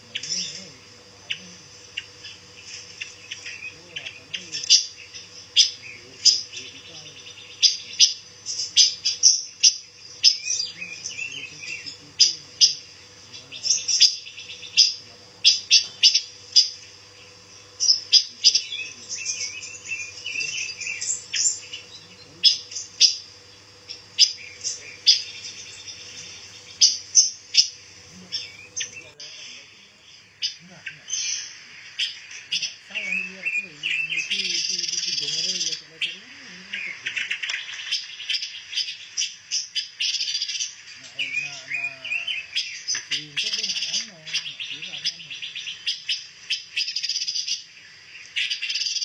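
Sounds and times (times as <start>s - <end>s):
faint steady hum: 0.0s - 49.0s
songbirds chirping: 0.0s - 49.0s.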